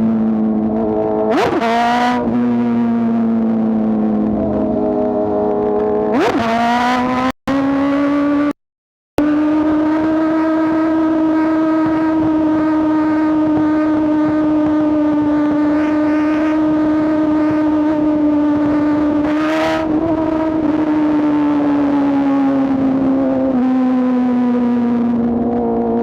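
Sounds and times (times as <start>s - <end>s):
motorcycle engine high revs: 0.0s - 8.6s, 9.2s - 26.0s.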